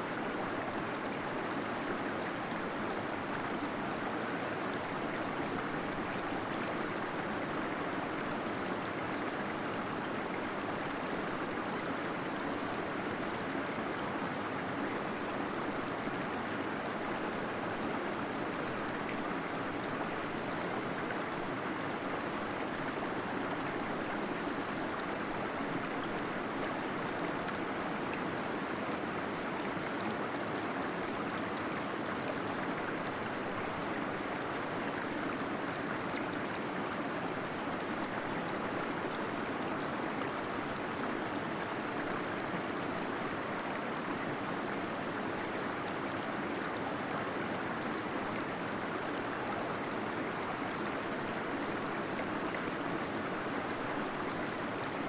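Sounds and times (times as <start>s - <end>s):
small waterfall flowing: 0.0s - 55.0s.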